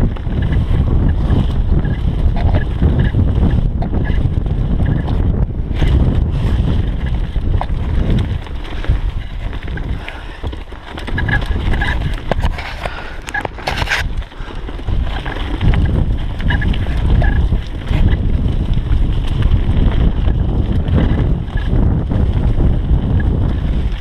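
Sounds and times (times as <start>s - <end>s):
bike rattling clicks: 0.0s - 24.0s
bike tyre noise: 0.0s - 24.0s
wind rumble on microphone: 0.0s - 24.0s.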